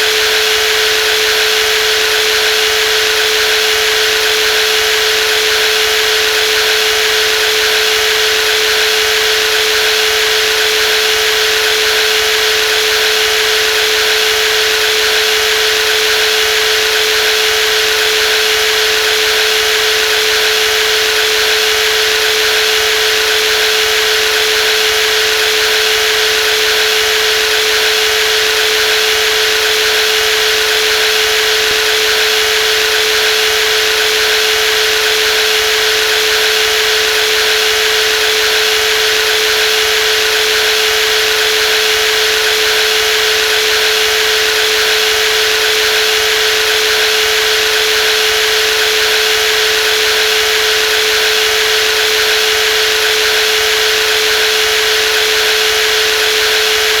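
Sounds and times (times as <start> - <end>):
jigsaw whining: 0.0 - 57.0.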